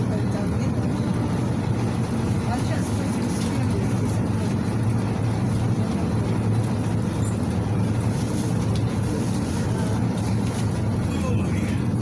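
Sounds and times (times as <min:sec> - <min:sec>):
bus diesel engine running: 0:00.0 - 0:12.0
road and body rumble: 0:00.0 - 0:12.0.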